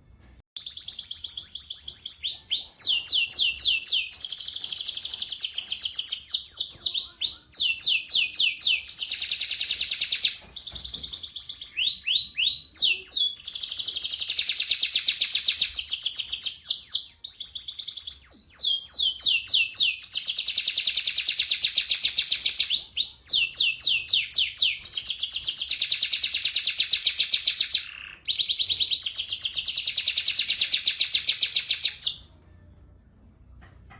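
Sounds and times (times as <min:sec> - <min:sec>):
canary singing trills: 0:00.6 - 0:32.3.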